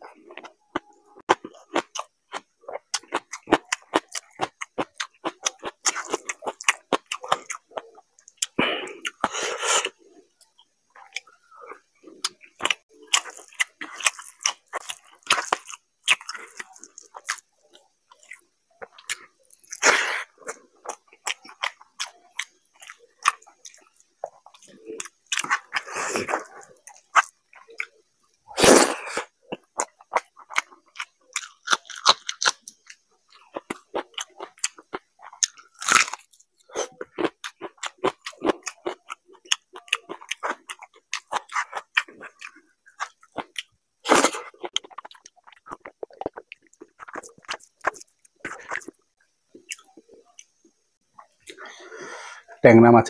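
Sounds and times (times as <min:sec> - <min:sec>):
man chewing food: 0:00.0 - 0:52.4.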